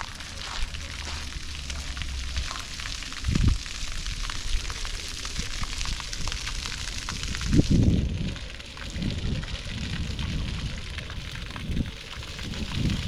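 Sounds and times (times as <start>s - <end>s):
crackling street hiss: 0.0s - 13.0s.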